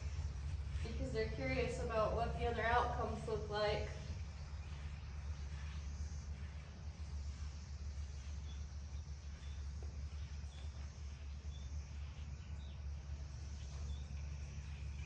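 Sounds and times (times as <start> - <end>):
small bird chirping: 0.0 - 15.0
steady low rumble: 0.0 - 15.0.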